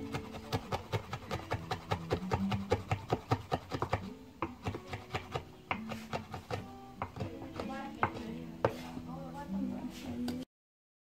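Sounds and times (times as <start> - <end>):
knife chopping on cutting board: 0.0 - 9.1.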